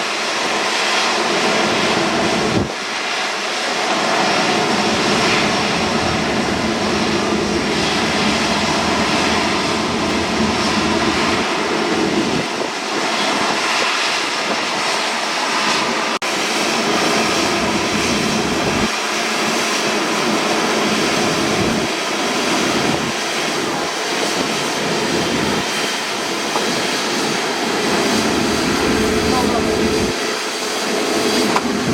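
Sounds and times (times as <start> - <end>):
jet engines running: 0.0 - 31.9.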